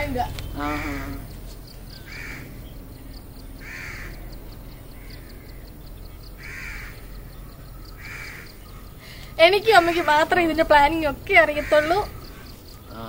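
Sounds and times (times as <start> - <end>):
crow cawing: 0.0 - 2.8, 3.6 - 13.0.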